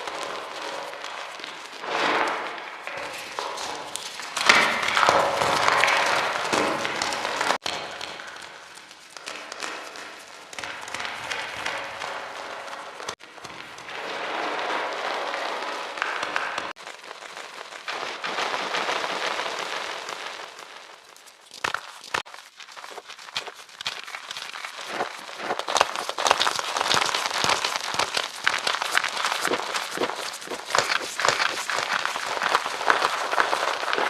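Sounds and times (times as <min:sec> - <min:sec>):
chalk crushing and crumbling: 0:00.0 - 0:34.0.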